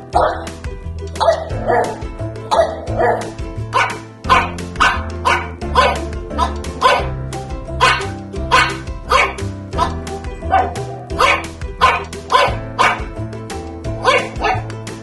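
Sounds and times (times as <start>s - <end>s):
background music with bass line: 0.0s - 15.0s
dog barking: 0.2s - 0.5s, 1.2s - 7.1s, 7.8s - 13.1s, 14.0s - 14.7s.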